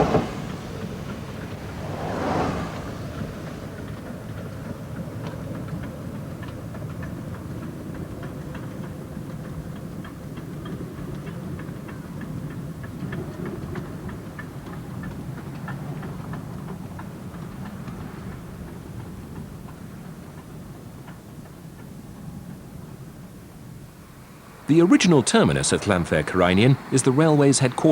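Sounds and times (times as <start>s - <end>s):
train rumbling and clicking: 0.0s - 27.9s.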